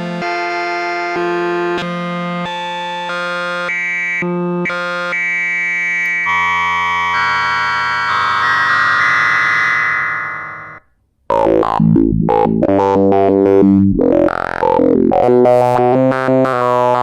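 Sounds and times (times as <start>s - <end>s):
synthesizer chord with bass line: 0.0s - 17.0s
synthesizer notes: 0.0s - 17.0s.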